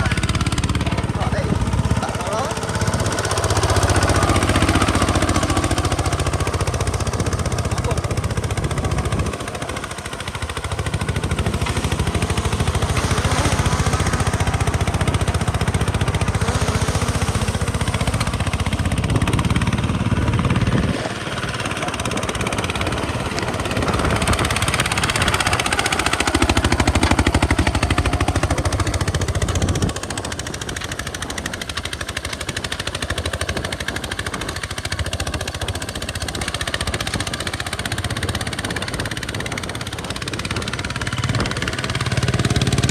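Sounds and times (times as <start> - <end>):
diesel tractor engine chugging: 0.0 - 42.9.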